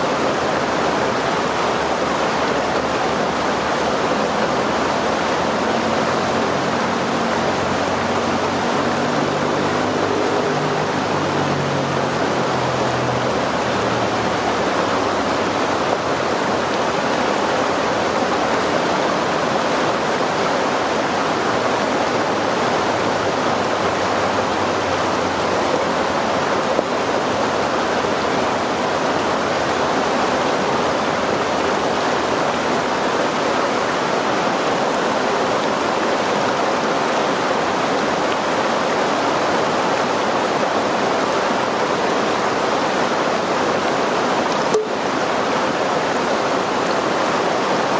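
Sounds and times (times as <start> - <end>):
river stream flowing: 0.0 - 47.9.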